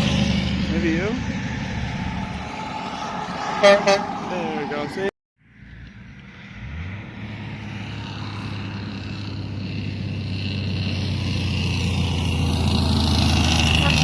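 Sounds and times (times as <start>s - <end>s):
heavy truck engine drone: 0.0s - 14.0s.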